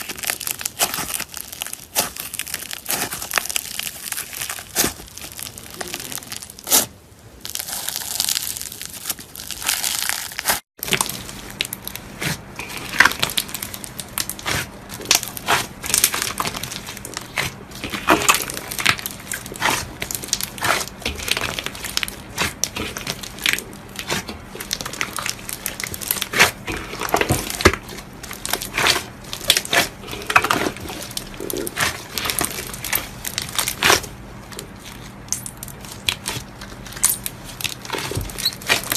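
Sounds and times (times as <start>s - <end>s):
slime crackling and popping: 0.0s - 38.9s
slime crinkling: 0.0s - 38.9s.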